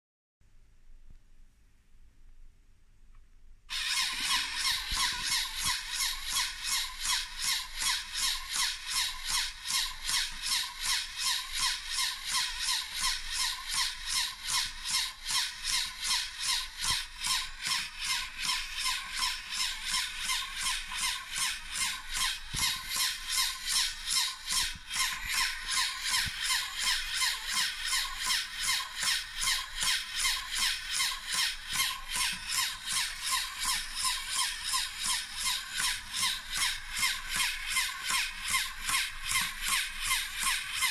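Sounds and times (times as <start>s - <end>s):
motor mechanical whir: 3.7s - 40.9s.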